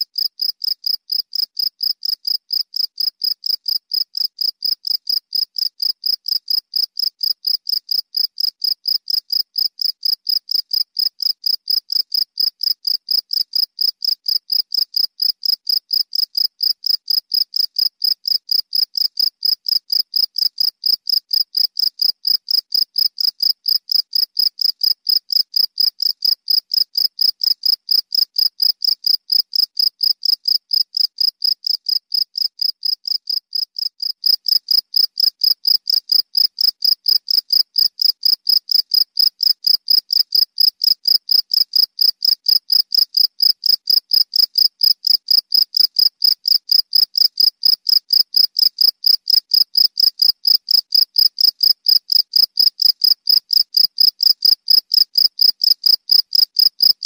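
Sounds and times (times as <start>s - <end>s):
cricket chirping: 0.2s - 57.0s.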